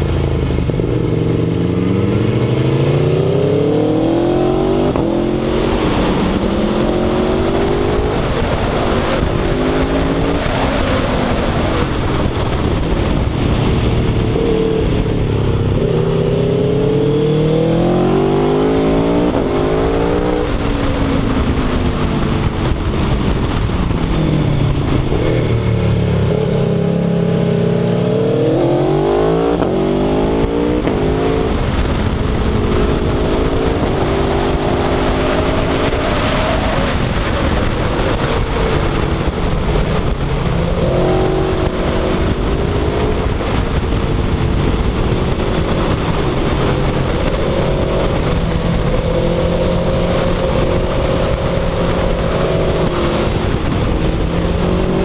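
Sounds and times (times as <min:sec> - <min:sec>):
motorcycle engine accelerating: 0:00.0 - 0:55.0
wind rush: 0:00.0 - 0:55.0.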